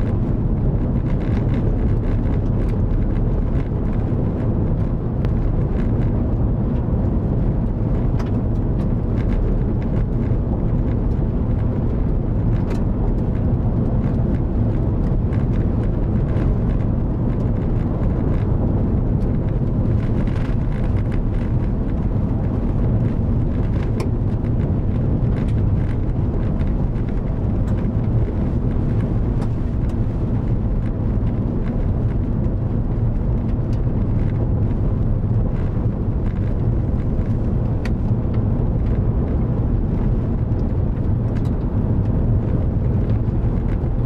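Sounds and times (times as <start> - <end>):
low rumble of tyres and engine: 0.0 - 44.0.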